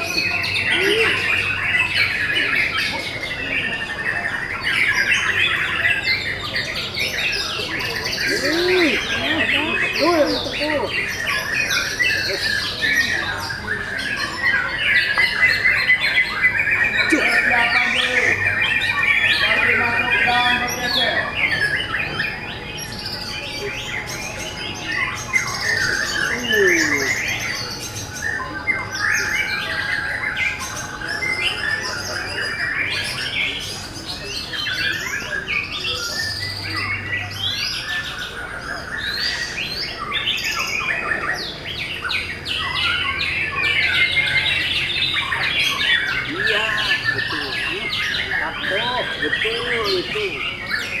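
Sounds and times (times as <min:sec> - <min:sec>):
birds singing whistles and chirps: 0:00.0 - 0:51.0.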